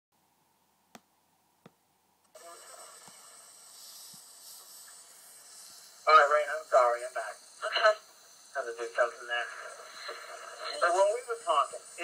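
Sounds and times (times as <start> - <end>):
playback hiss: 2.3 - 12.0.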